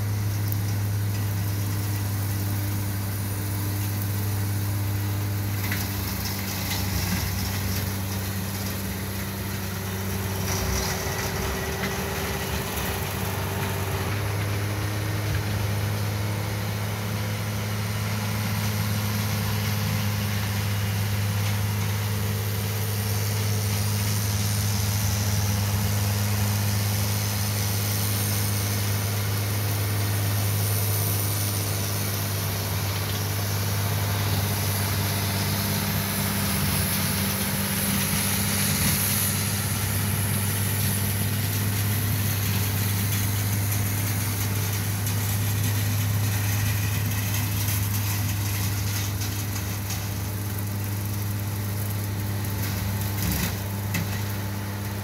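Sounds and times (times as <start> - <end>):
tractor diesel engine droning: 0.0 - 55.0.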